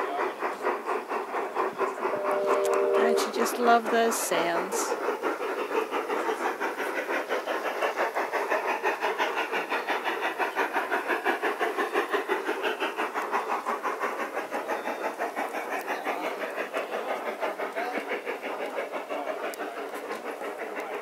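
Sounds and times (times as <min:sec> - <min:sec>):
model steam locomotive chuffing: 0:00.0 - 0:21.0
steam hiss: 0:00.0 - 0:21.0.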